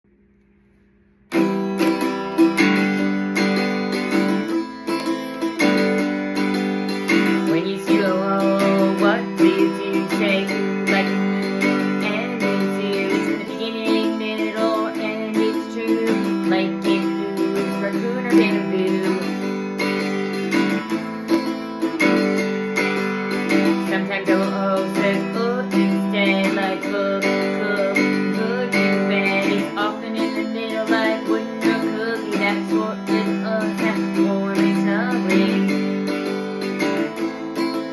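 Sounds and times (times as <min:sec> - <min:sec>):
acoustic guitar strumming chords: 0:01.3 - 0:37.9.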